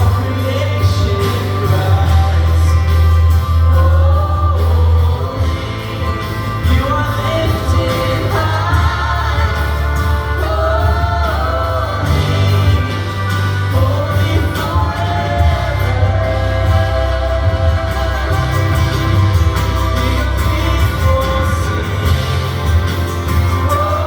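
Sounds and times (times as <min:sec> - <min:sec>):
voices singing: 0:00.0 - 0:24.0
worship band playing: 0:00.0 - 0:24.0.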